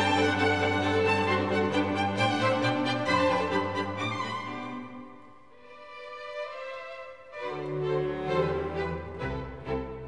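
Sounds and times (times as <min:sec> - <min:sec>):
bowed strings music: 0:00.0 - 0:10.0.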